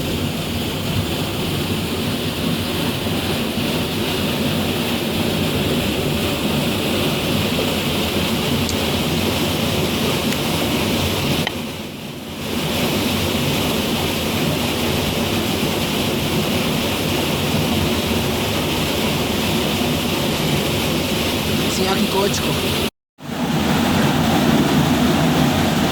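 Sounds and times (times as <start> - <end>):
rushing water: 0.0 - 25.9.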